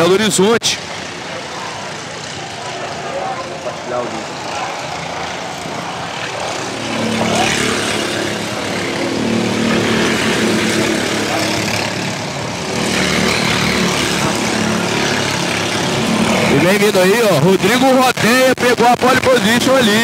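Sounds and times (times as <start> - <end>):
go-kart engines buzzing: 0.0 - 20.0.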